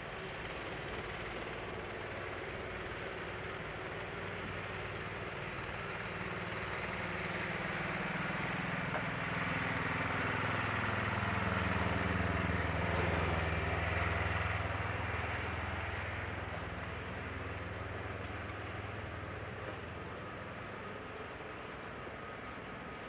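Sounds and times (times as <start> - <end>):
engine running: 0.0 - 23.0
city street noise: 0.1 - 23.0.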